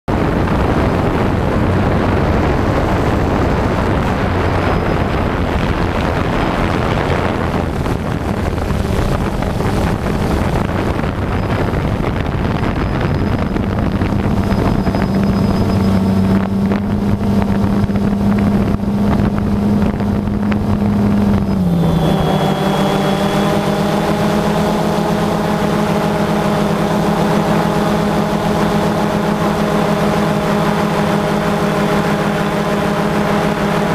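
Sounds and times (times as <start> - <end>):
drone propellers humming: 0.1 - 33.9
wind on microphone: 0.1 - 33.9.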